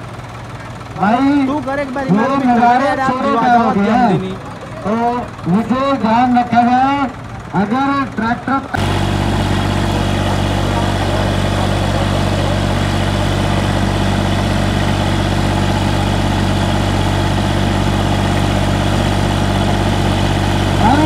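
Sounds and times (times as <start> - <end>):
diesel tractor engines straining: 0.0 - 21.0.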